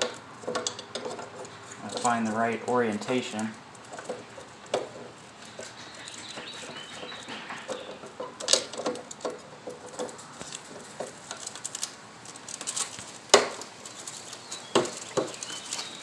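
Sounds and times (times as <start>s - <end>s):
plastic clicks and scrapes: 0.0s - 2.3s, 3.0s - 16.0s.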